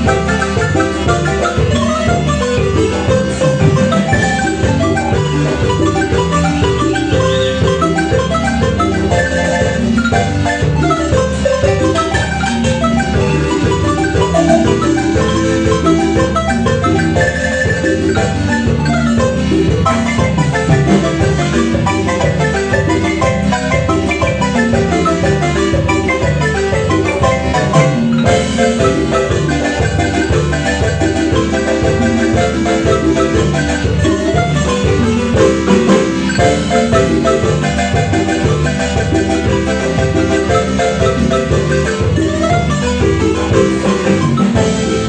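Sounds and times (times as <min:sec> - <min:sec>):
marimba music: 0:00.0 - 0:45.0.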